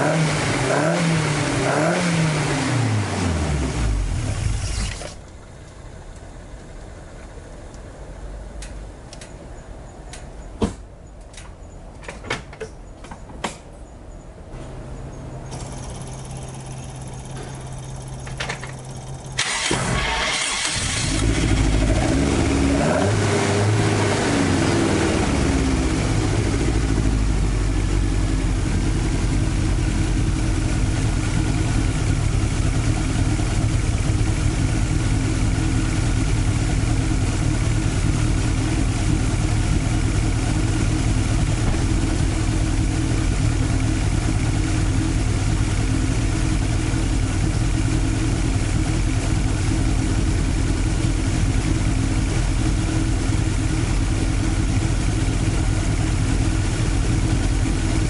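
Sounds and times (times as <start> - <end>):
car engine idling: 2.9 - 10.5, 14.7 - 58.0.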